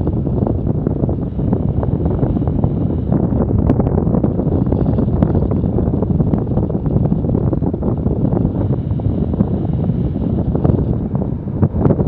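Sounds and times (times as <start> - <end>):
loud wind noise on microphone: 0.0 - 12.0.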